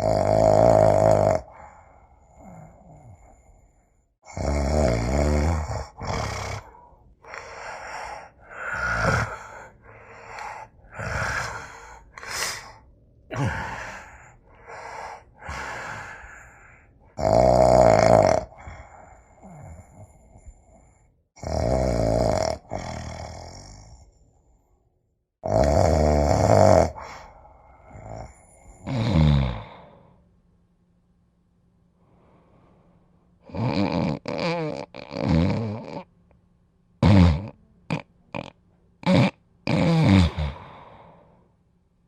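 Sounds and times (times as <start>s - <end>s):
person snoring: 0.0s - 3.6s, 4.2s - 20.8s, 21.4s - 24.1s, 25.4s - 30.2s, 33.4s - 36.1s, 37.0s - 41.4s.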